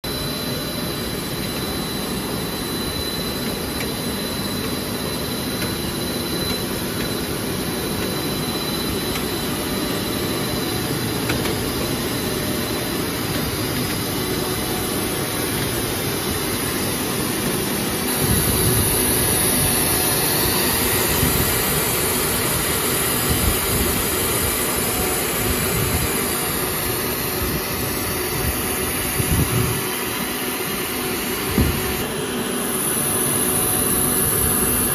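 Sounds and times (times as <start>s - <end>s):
faint high whine: 0.1s - 34.9s
machine drone and hiss: 0.1s - 34.9s.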